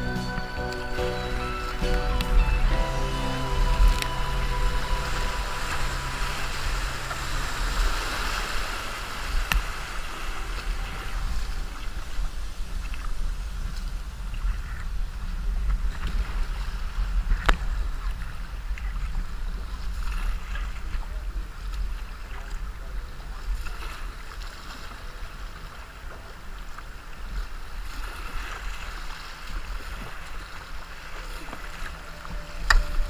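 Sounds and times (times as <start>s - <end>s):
river water rushing and splashing: 0.0s - 22.2s, 23.2s - 33.0s
wind rumble on microphone: 2.0s - 33.0s.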